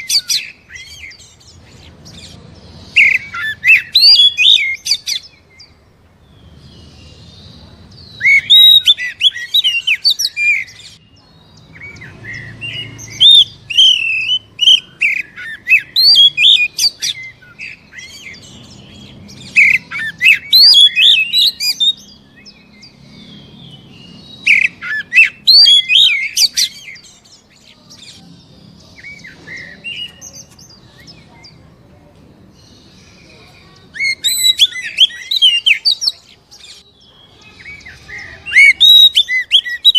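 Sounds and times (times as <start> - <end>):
bird singing whistles and chirps: 0.0 - 31.6, 32.6 - 39.9
bird twittering: 0.0 - 31.6, 32.6 - 39.9.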